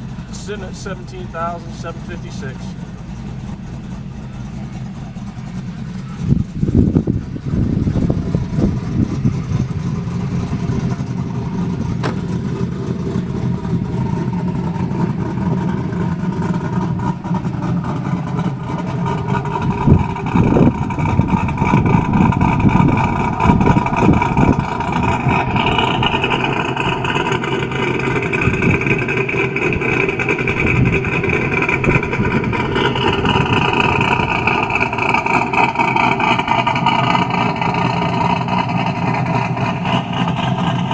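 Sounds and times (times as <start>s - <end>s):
car engine idling with loping beat: 0.0s - 40.9s.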